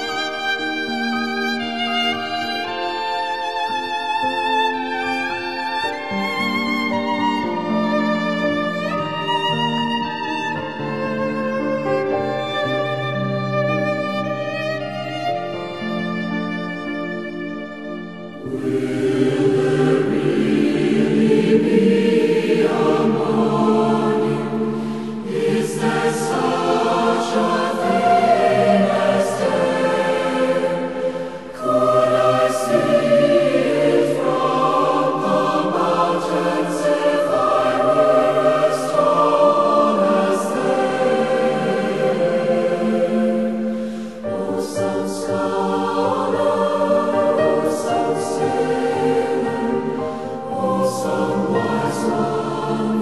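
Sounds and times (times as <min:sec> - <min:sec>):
choir singing slow chords: 0:00.0 - 0:53.0.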